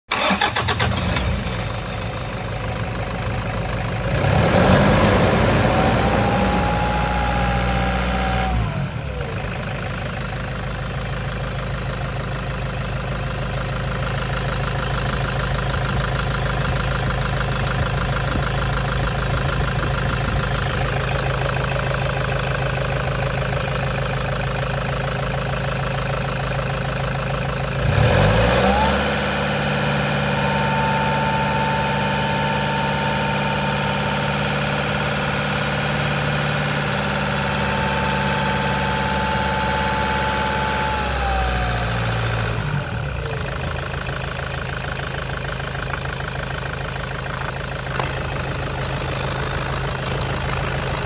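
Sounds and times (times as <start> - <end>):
diesel engine revving and idling: 0.1 - 51.0.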